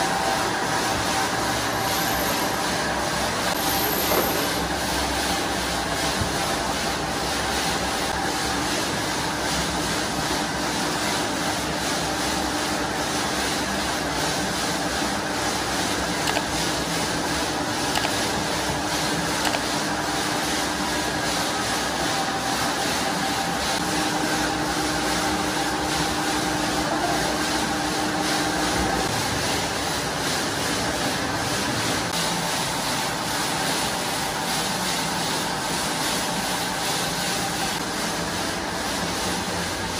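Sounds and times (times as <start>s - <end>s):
workshop machinery drone: 0.0s - 39.9s.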